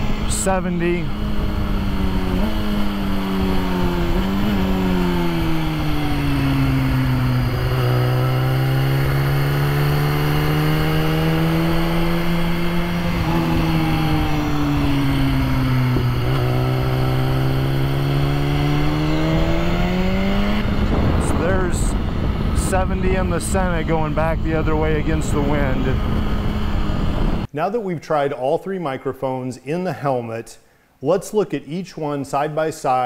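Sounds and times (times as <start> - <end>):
motorcycle engine at speed: 0.0 - 27.5
wind noise: 1.0 - 27.5.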